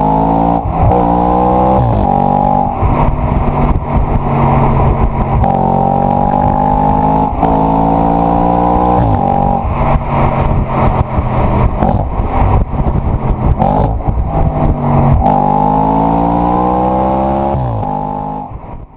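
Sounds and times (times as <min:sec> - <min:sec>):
car exhaust downshifting and accelerating: 0:00.0 - 0:18.9.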